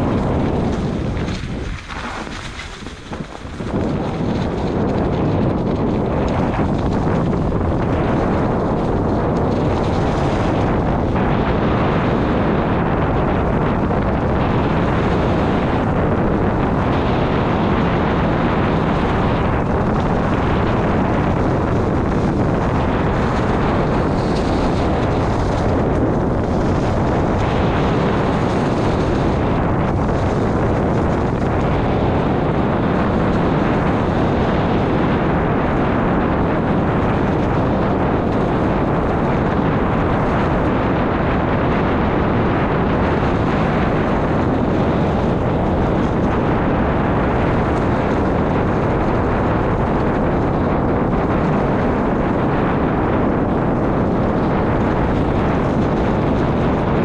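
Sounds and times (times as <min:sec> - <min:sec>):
wind rushing on microphone: 0:00.0 - 0:57.0.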